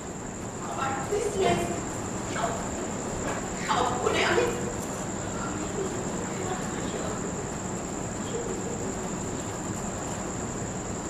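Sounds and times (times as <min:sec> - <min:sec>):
crickets chirping: 0:00.0 - 0:11.0
hall noise hiss: 0:00.0 - 0:11.0.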